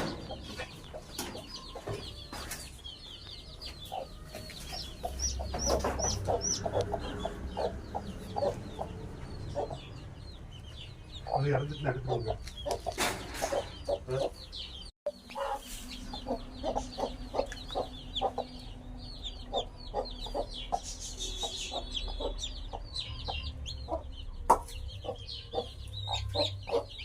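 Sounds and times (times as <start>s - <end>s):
chicks peeping: 0.0s - 27.0s
hen clucking: 0.0s - 27.0s.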